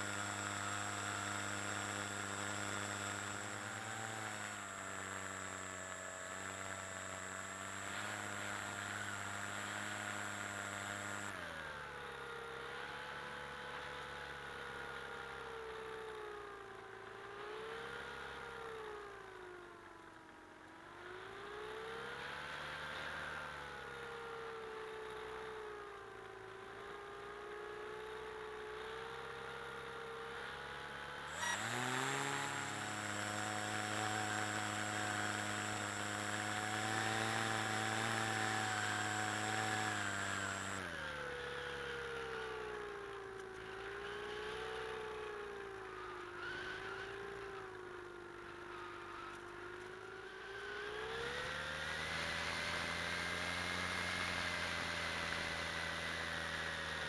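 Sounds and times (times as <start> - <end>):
model aircraft motor and propeller: 0.0 - 57.0.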